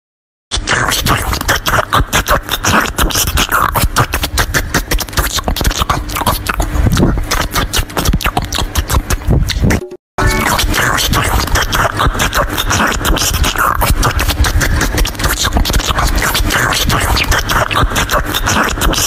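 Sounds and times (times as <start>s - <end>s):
crunching and chewing: 0.7s - 9.8s, 10.4s - 19.0s.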